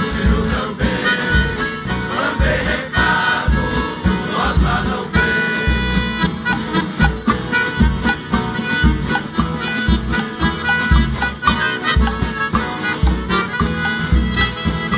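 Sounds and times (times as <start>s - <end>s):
folk orchestra music: 0.0s - 14.9s.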